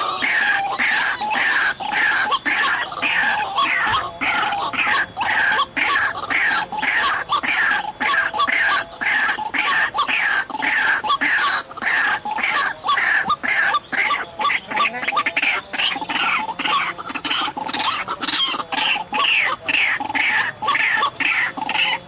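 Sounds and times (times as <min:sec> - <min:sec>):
bird croaking calls: 0:00.0 - 0:22.0.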